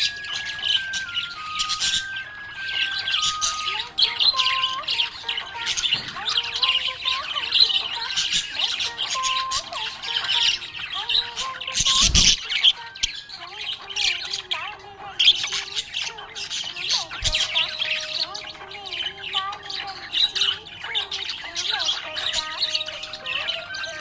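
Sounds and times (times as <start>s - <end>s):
budgerigars chirping: 0.0s - 24.0s.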